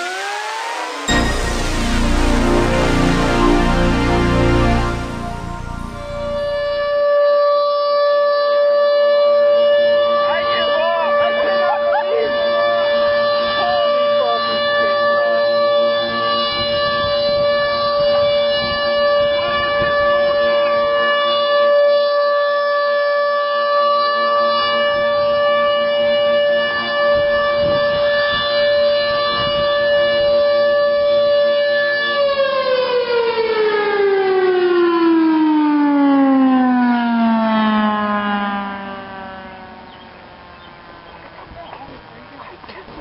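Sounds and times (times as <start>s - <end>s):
tornado siren wailing: 0.0s - 42.3s.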